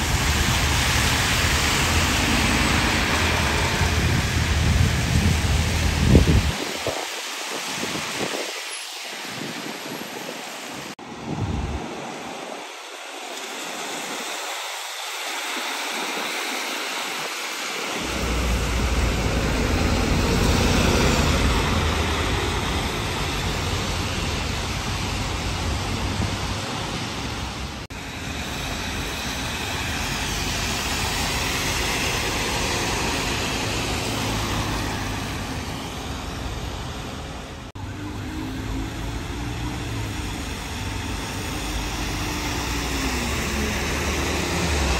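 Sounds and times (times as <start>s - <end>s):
bus engine rumble: 0.0s - 17.2s, 18.0s - 44.9s
tyres hissing on wet road: 0.0s - 44.9s.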